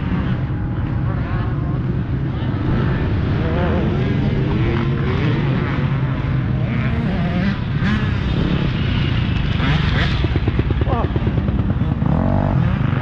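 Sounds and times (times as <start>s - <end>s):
dirt bike engine at low revs: 0.0s - 13.0s
motorbikes revving: 0.0s - 13.0s.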